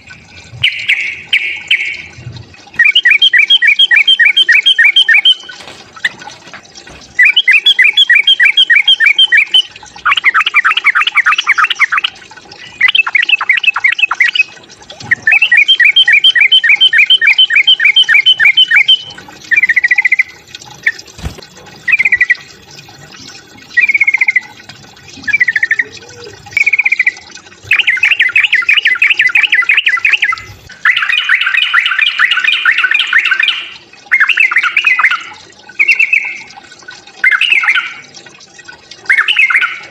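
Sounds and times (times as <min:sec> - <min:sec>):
bulbul chattering trills: 0:02.8 - 0:06.2, 0:07.2 - 0:24.6, 0:25.2 - 0:36.5.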